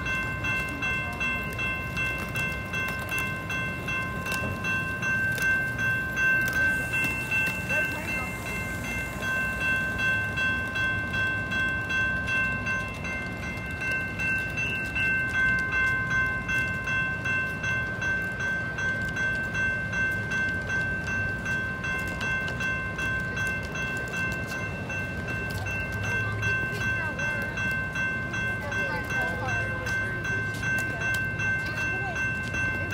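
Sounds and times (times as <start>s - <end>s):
crossing warning bell ringing: 0.0s - 32.9s
train rumble: 0.0s - 32.9s.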